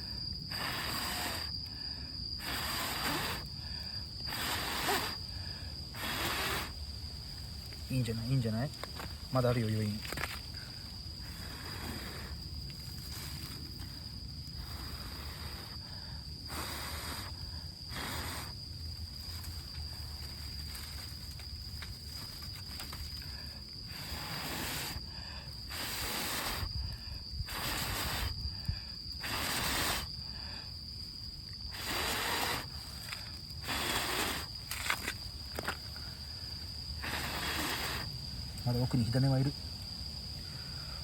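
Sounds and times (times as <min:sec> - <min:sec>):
person blowing puffs on embers: 0:00.0 - 0:06.9, 0:10.4 - 0:38.1.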